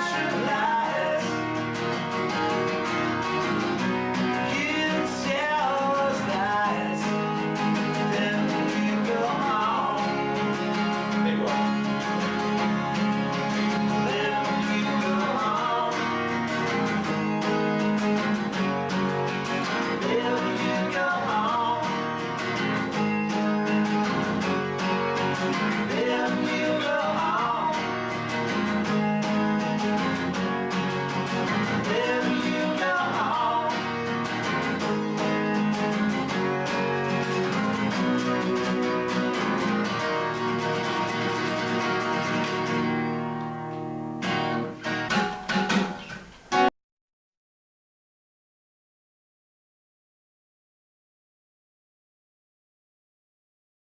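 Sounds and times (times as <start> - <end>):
acoustic guitar plucked and strummed: 0.0 - 46.7.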